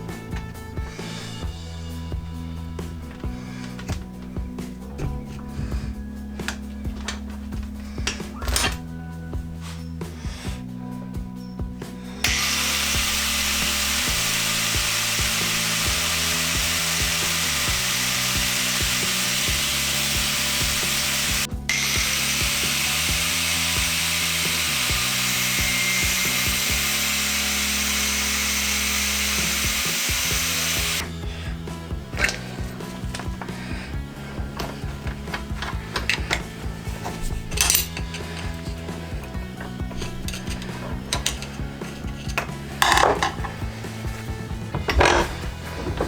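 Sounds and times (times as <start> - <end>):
angle grinder cutting metal: 0.0 - 8.9, 11.9 - 46.0
background music: 0.0 - 46.0.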